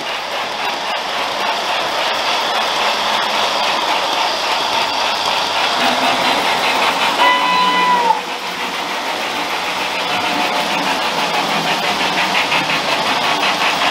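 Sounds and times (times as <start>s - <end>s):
model train wheels clattering: 0.0s - 13.9s.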